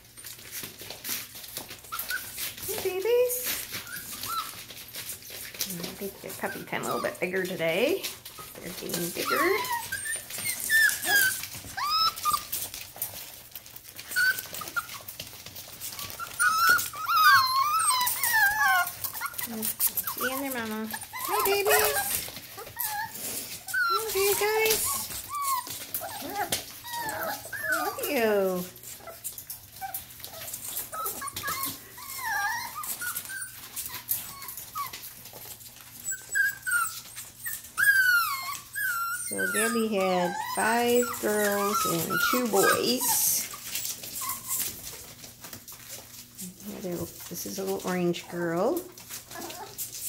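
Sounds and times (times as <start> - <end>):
paws scratching on newspaper: 0.0 - 50.0
puppies whining and yelping: 0.0 - 50.0.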